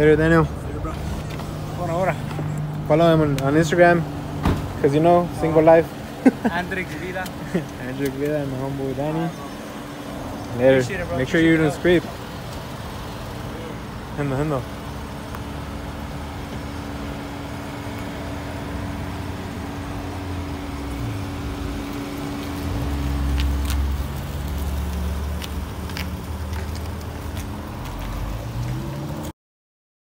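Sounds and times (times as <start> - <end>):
car engine at low speed: 0.0 - 29.3.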